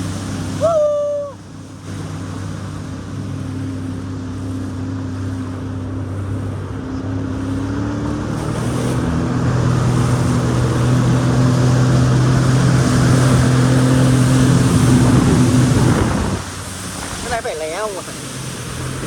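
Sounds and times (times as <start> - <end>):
jet ski engine revving: 0.0 - 19.0
rushing water: 0.0 - 19.0.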